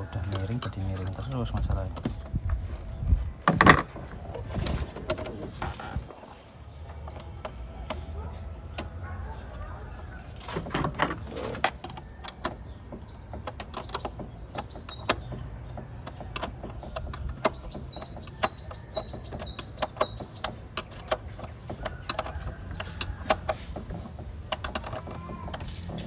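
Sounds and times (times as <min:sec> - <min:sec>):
small birds chirping: 0:04.6 - 0:26.0.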